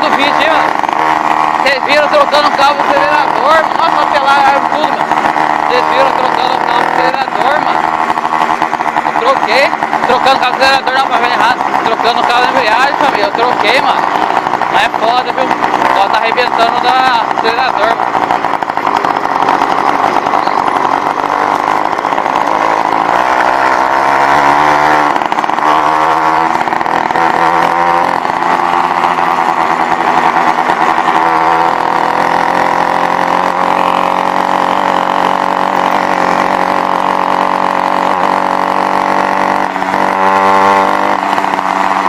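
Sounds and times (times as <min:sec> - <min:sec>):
small bicycle engine revving: 0:00.0 - 0:42.0.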